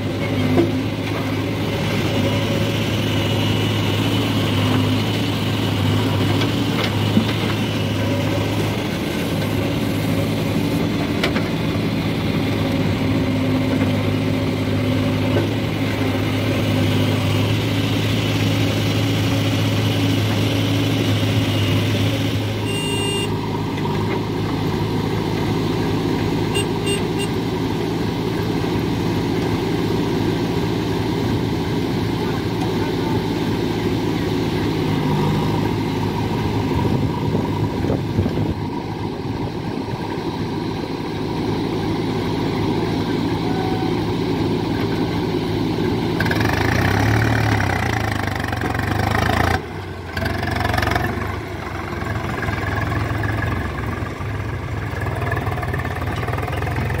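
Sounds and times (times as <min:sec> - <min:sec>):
backhoe digging wet mud: 0:00.0 - 0:26.8, 0:27.5 - 0:57.0
diesel engine running: 0:00.0 - 0:57.0.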